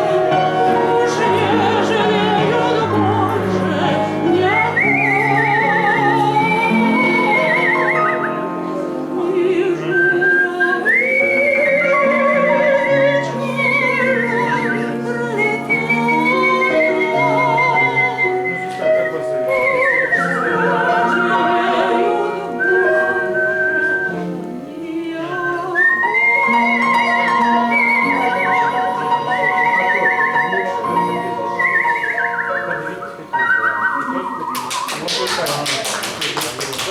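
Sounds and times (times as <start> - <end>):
woman singing: 0.0 - 32.6
piano accompaniment: 0.0 - 36.9
melodic human whistling: 4.3 - 8.8, 9.8 - 24.4, 25.4 - 36.4.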